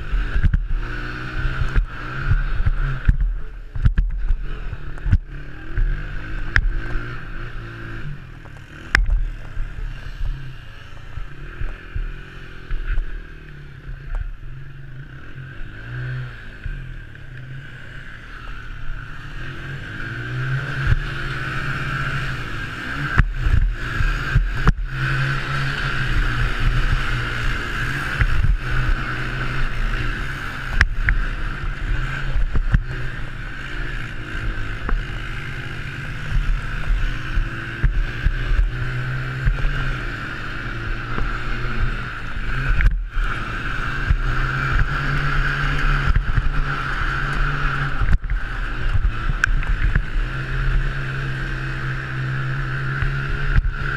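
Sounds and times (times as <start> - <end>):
quad engine revving: 0.0 - 53.9.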